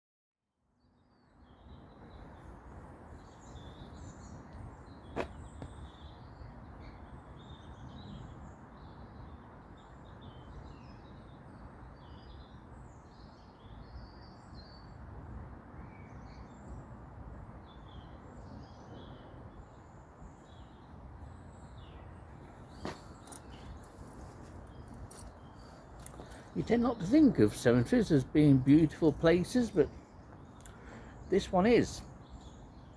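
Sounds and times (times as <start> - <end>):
songbirds chirping and singing: 1.0 - 15.0, 17.6 - 32.9.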